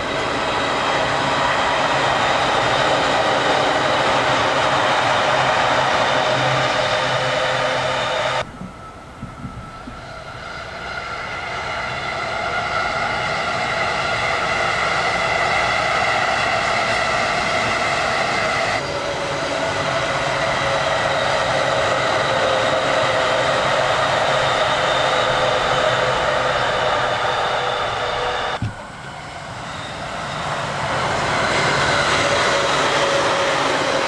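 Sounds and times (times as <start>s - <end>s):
electric train whine: 0.0s - 34.0s
wheels rushing on rail: 0.0s - 34.0s.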